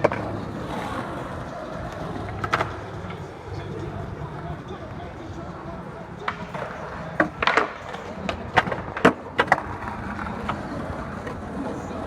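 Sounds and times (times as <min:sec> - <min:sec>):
skateboard clacking: 0:00.0 - 0:12.0.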